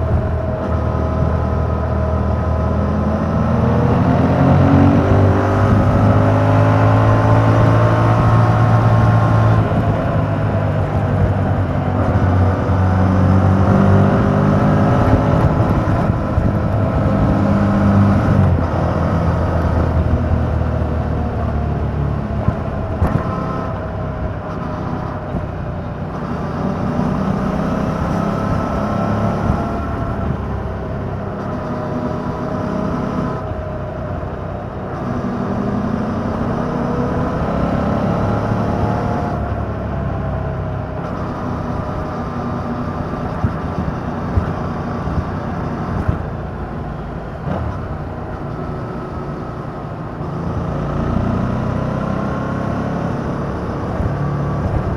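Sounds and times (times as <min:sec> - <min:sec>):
motorcycle engine revving: 0:00.0 - 0:54.9
wind noise: 0:00.0 - 0:54.9.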